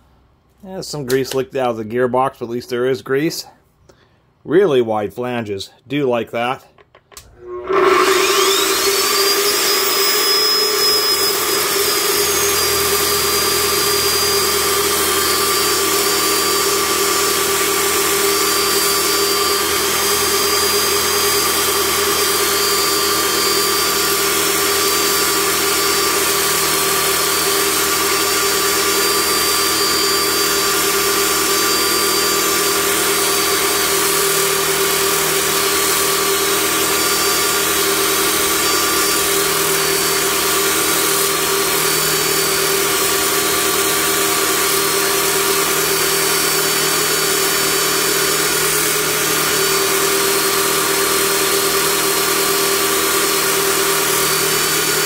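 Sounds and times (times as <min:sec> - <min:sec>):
cut-off saw grinding steel: 0:07.4 - 0:55.0.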